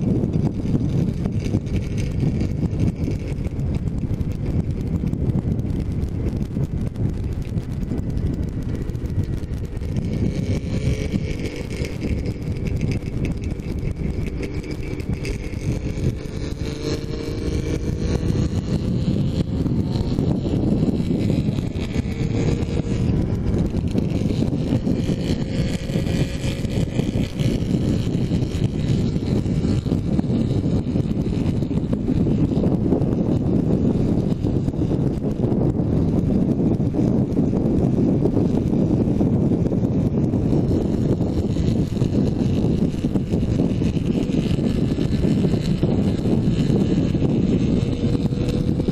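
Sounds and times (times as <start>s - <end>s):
motorcycle engine: 0.0s - 48.9s
wind buffeting helmet camera: 0.0s - 48.9s.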